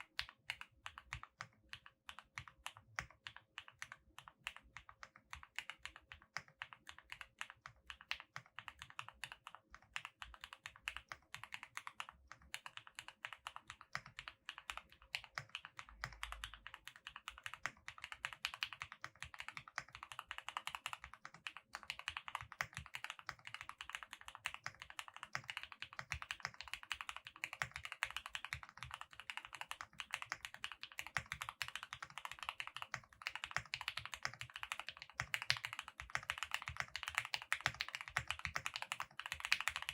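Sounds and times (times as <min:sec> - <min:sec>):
mechanical keyboard typing: 0:00.1 - 0:39.9.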